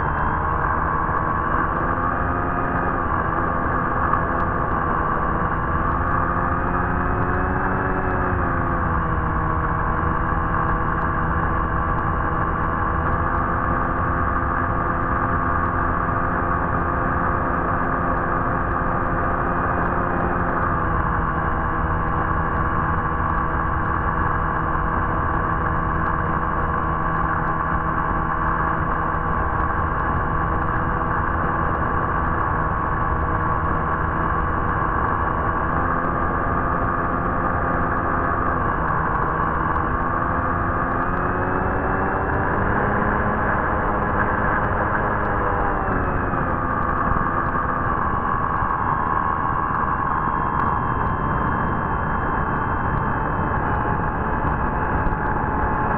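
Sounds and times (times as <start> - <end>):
electric motor whine: 0.0 - 55.9.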